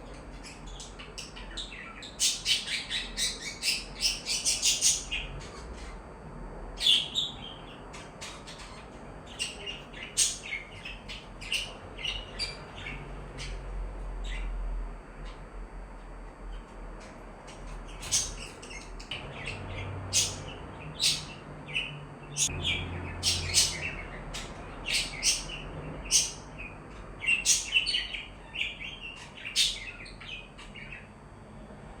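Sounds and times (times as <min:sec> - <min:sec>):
small birds chirping: 0:00.0 - 0:06.0, 0:06.8 - 0:14.6, 0:17.5 - 0:31.4.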